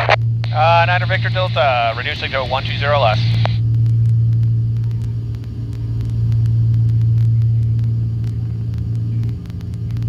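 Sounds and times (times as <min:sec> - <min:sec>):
propeller plane engines droning: 0:00.0 - 0:10.0.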